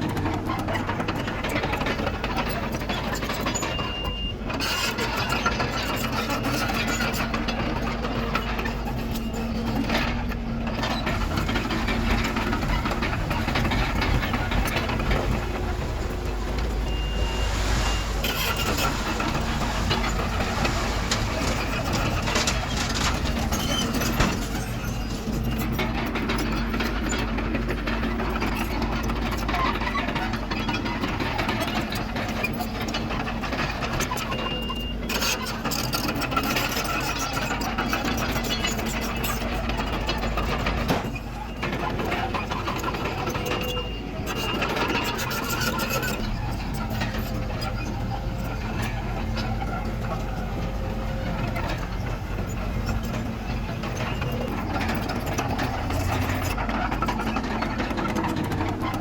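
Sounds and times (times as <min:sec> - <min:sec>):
bulldozer diesel engine running: 0:00.0 - 0:59.0
rattling and clanking: 0:00.0 - 0:59.0.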